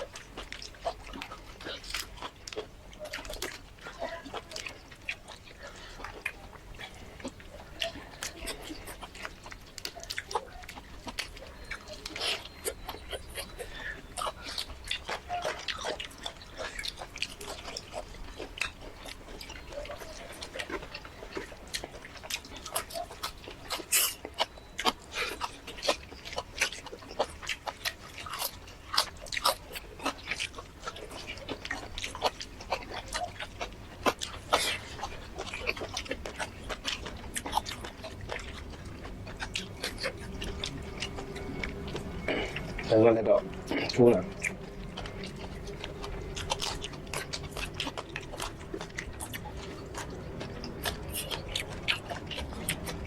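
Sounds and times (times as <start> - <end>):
chewing mouth clicks and smacks: 0.0 - 53.0.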